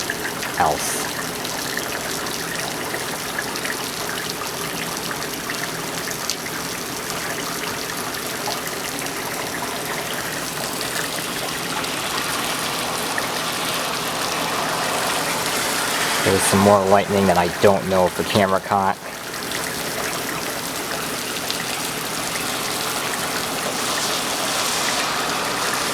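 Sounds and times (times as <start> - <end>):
torrential rain pouring: 0.0 - 25.9.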